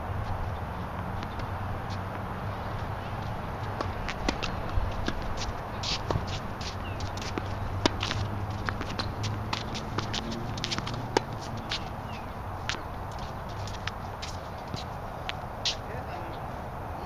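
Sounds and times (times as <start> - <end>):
footsteps on court: 0.2 - 15.9.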